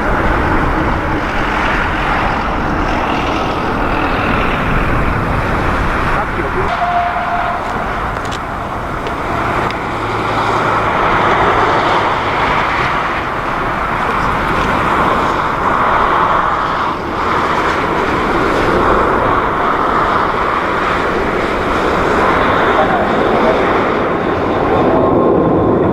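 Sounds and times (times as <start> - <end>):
jet airliner engines rushing: 0.0 - 25.9.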